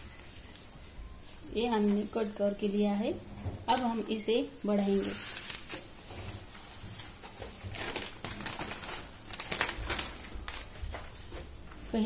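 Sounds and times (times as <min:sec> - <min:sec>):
newspaper rustling and crinkling: 0:00.0 - 0:03.1, 0:03.7 - 0:12.0.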